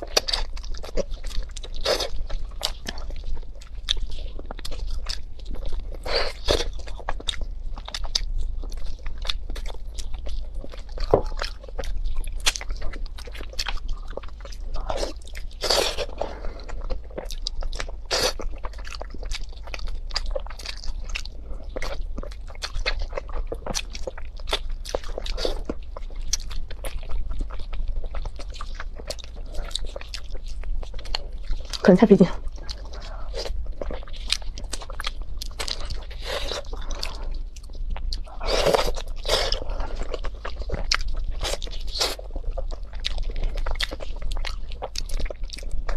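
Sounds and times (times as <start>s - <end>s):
wet bites and chewing: 0.0s - 31.8s, 32.5s - 45.9s.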